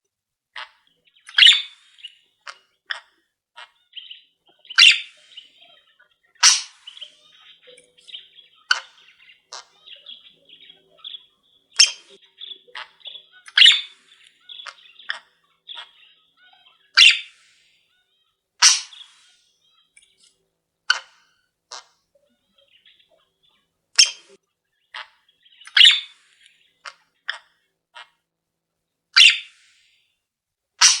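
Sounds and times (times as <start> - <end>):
birds chirping sharp calls: 0.6 - 28.2, 29.2 - 29.9, 30.8 - 31.0
high-pitched bird chatter: 0.6 - 28.2, 29.2 - 29.9, 30.8 - 31.0.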